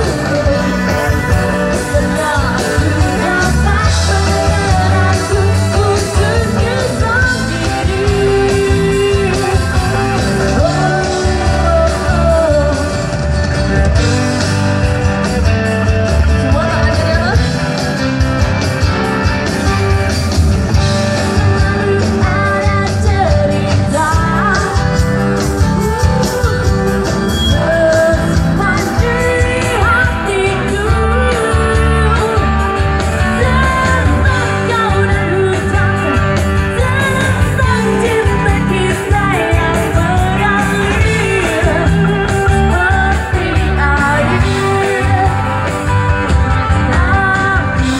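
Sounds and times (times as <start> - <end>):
person singing: 0.0 - 13.4, 21.2 - 47.9
live pop-rock band playing: 0.0 - 47.9.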